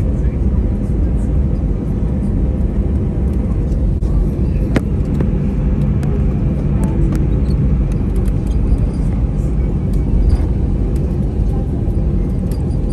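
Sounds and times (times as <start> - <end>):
vehicle rumble from inside: 0.0 - 12.9.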